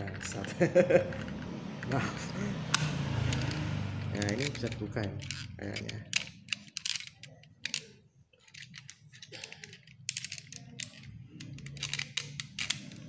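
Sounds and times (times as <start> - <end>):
plastic toy car clicking: 0.0 - 2.0, 2.7 - 13.0.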